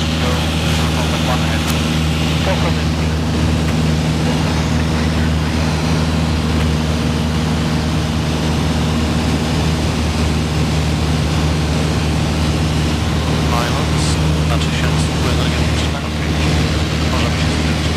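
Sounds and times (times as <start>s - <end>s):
propeller aircraft engine drone: 0.0s - 17.9s.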